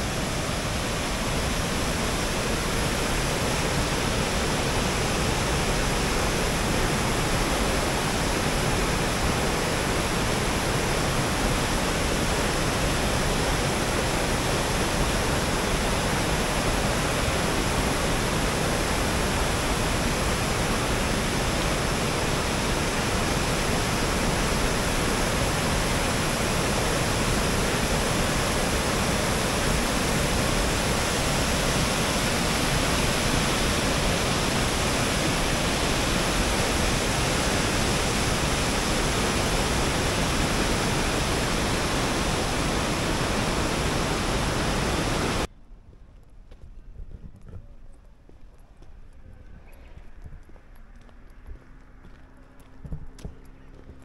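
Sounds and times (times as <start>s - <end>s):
waterfall rushing: 0.0s - 45.5s.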